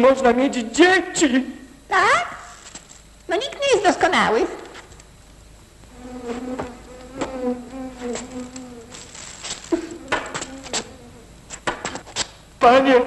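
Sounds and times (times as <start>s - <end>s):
insect-like buzzing drone: 0.0s - 13.0s.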